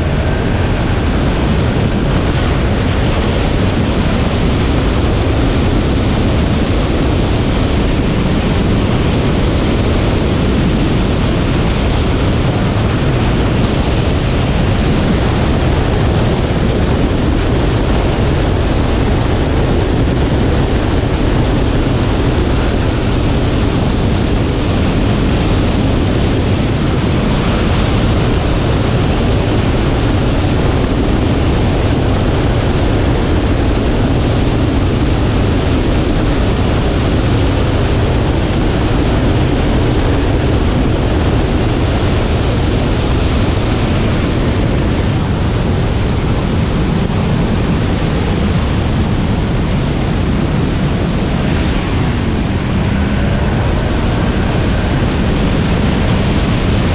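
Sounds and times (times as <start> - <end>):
wind and road noise: 0.0 - 56.9.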